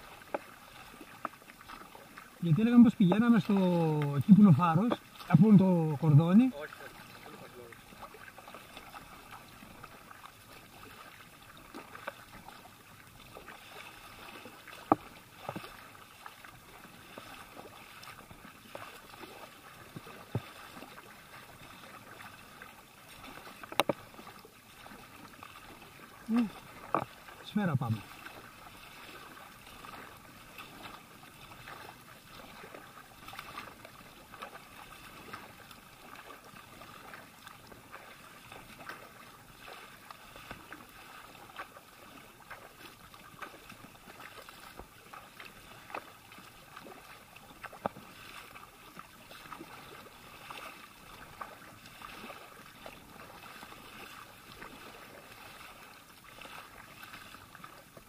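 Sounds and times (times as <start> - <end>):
kayak paddle splashing: 0.0 - 58.0
water washing along hull: 0.0 - 58.0.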